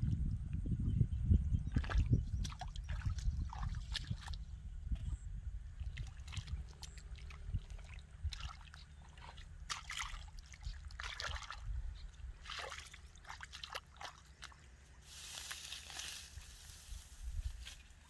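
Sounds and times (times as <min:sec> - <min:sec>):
feet wading through muddy water: 0:01.7 - 0:05.1, 0:05.7 - 0:18.0.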